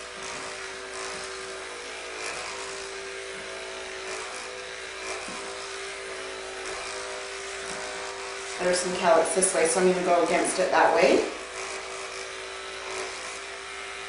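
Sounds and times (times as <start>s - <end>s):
electric hair clippers buzzing: 0.0s - 14.0s.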